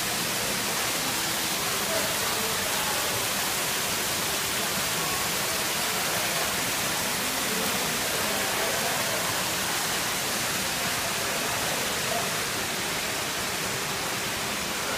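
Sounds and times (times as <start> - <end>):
water falling over rocks: 0.0 - 14.9.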